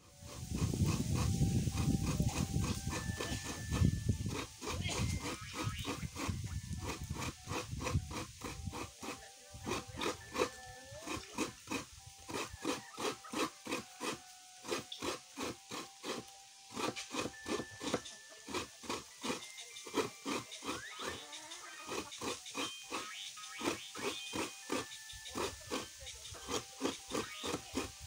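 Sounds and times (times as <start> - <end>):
coconut rasping on grater: 0.0 - 28.0.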